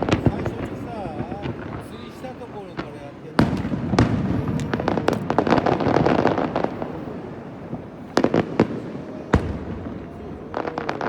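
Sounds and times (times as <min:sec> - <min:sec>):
firework bangs: 0:00.0 - 0:11.0
fireworks crackling: 0:00.0 - 0:11.0.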